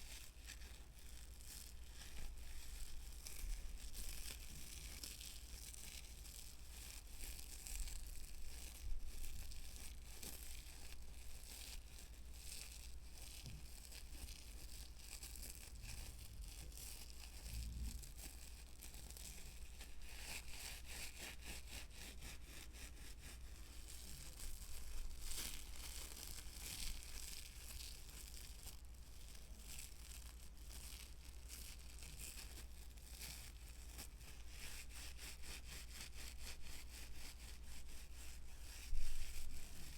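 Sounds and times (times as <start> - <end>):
crinkly rustling: 0.0 - 39.9
fine scratching: 0.0 - 39.9.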